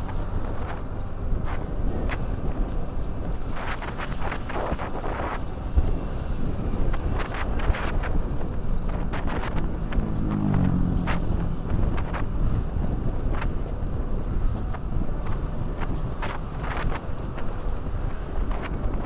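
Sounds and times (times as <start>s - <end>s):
motorcycle engine and road rumble: 0.0s - 19.0s
wind buffeting microphone: 0.0s - 19.0s.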